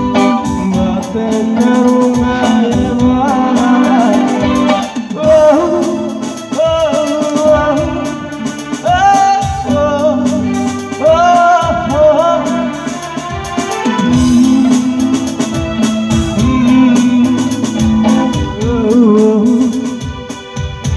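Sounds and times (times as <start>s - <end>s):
live band playing: 0.0s - 20.9s
melodic lead with bending notes: 0.0s - 20.9s
percussion hits: 0.0s - 20.9s.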